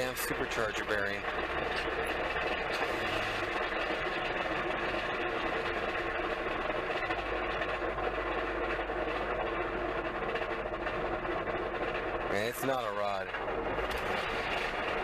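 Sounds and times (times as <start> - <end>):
car engine idling: 0.0 - 15.0
supercharger bearing noise: 0.0 - 15.0.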